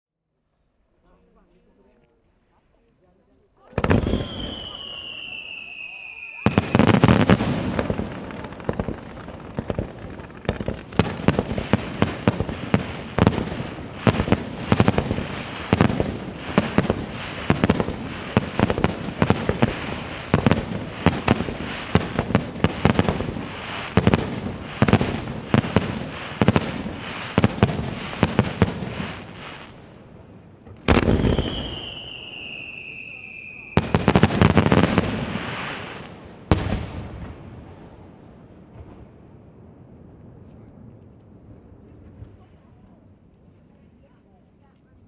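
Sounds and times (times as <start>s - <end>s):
fireworks bangs and crackles: 3.6s - 43.1s.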